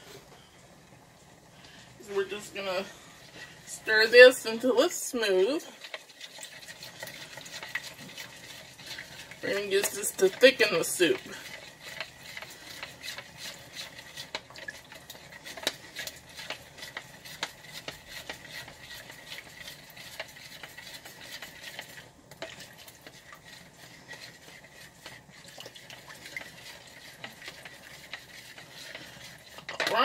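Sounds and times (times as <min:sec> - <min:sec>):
utensil scraping a cup: 0:05.4 - 0:30.0.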